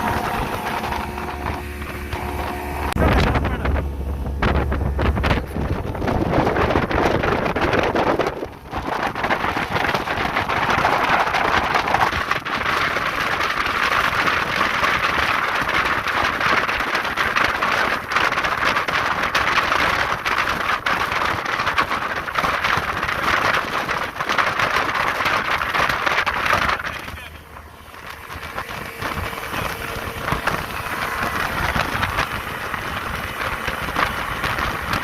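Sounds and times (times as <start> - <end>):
speed boat running: 0.0 - 35.0
water rushing: 0.0 - 35.0
wind on microphone: 0.0 - 35.0.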